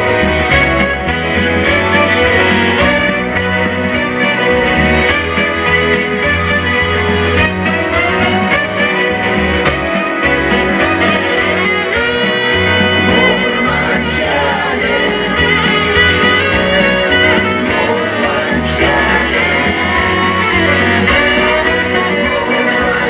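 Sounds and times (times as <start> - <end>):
pulsing bass: 0.0 - 23.0
song with guitar and singing: 0.0 - 23.0.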